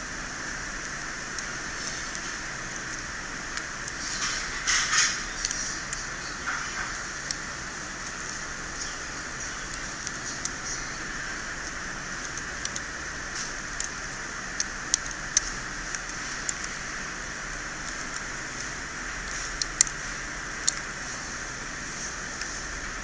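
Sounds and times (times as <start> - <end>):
small sharp clicks and taps: 0.6 - 21.2.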